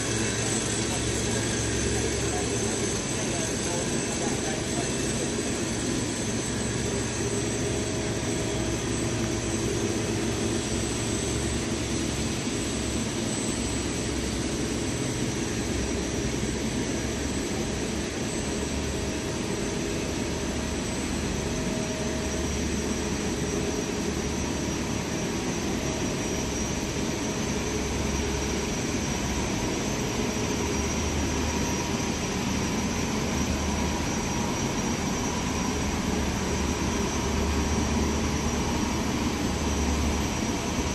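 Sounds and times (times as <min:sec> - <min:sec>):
steady machine noise: 0:00.0 - 0:40.9.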